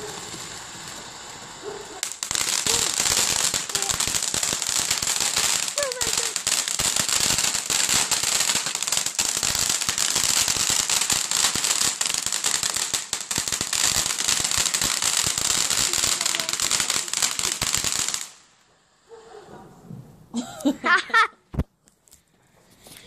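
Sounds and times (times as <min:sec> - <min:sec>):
firework crackling: 0:00.0 - 0:18.7.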